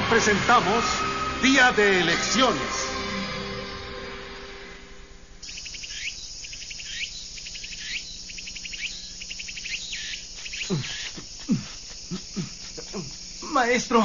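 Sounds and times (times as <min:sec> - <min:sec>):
cicada sweeping call: 0:00.2 - 0:14.0
cicada pulsing buzz: 0:00.5 - 0:14.0.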